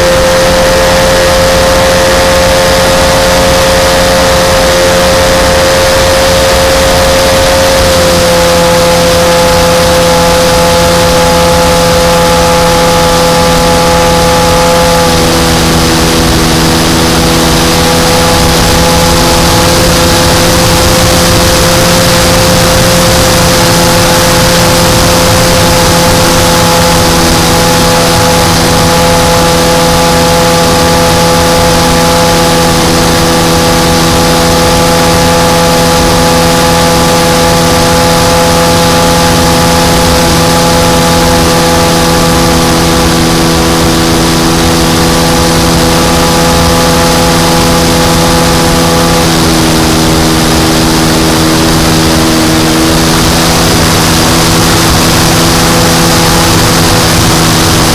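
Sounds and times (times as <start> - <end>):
model airplane engine running: 0.0 - 57.9.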